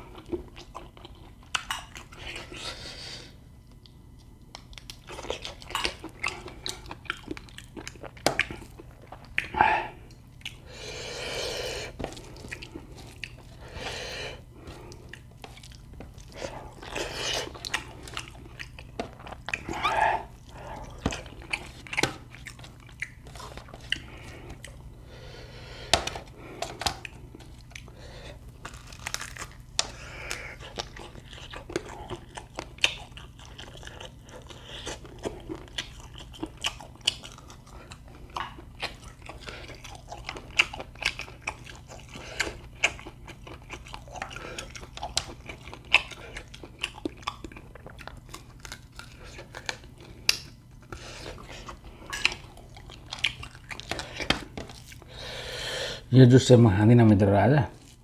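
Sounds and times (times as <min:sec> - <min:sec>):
person chewing and crunching: 0:00.0 - 0:55.6.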